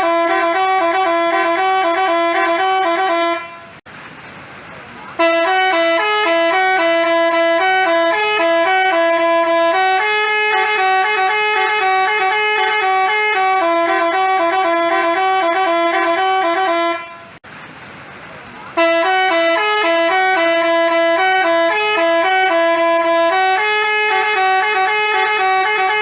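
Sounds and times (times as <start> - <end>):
bus horn playing a tune: 0.0 - 3.8, 5.2 - 17.4, 18.8 - 26.0.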